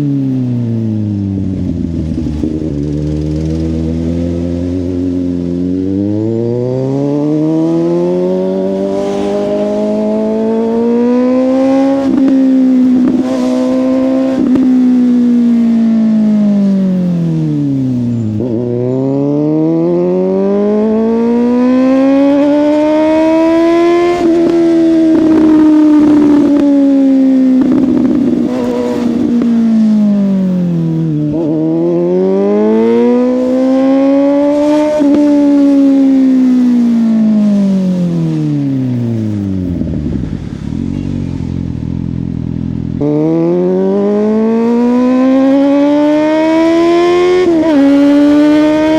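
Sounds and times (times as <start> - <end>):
wind noise: 0.0 - 19.1, 20.0 - 48.9
motorcycle engine revving: 0.0 - 48.9.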